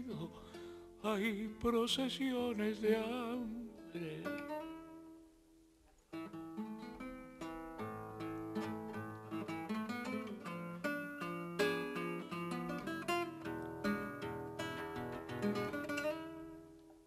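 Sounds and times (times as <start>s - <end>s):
classical guitar playing: 0.0s - 5.3s, 6.1s - 17.0s.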